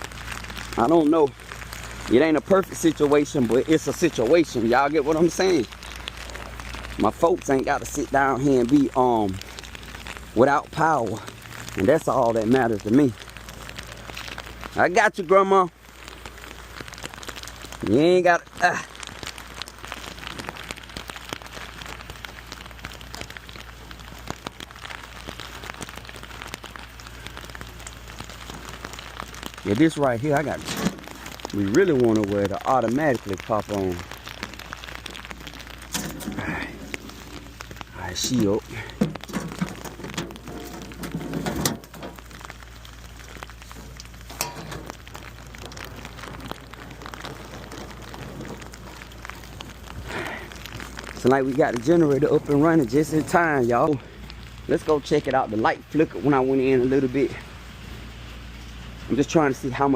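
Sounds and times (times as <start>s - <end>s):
rain pattering on hard surface: 0.0s - 59.9s.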